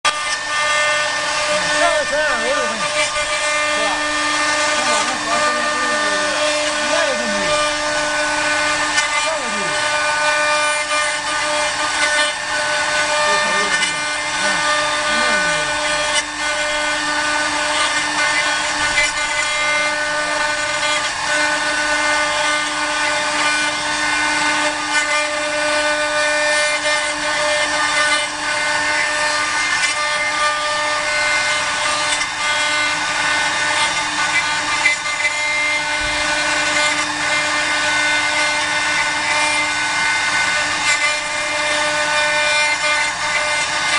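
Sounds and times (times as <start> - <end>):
router bits cutting wood: 0.0 - 43.9
spindle motors whining: 0.1 - 43.9.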